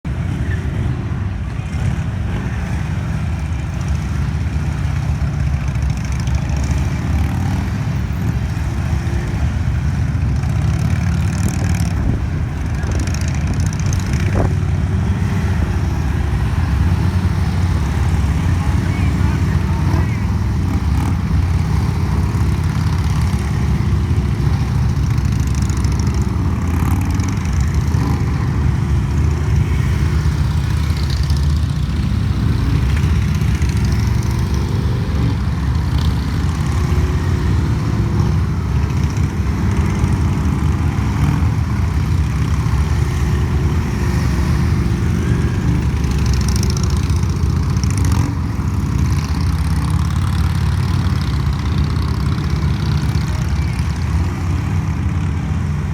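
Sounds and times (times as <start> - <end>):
motorcycle engines running: 0.0 - 55.9.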